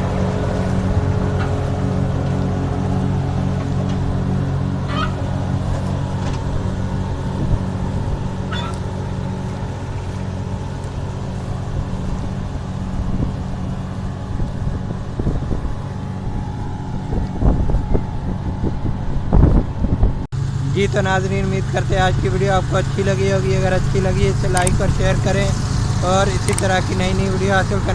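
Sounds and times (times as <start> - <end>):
engine knocks: 0.0 - 27.9
harvester engine running: 0.0 - 27.9.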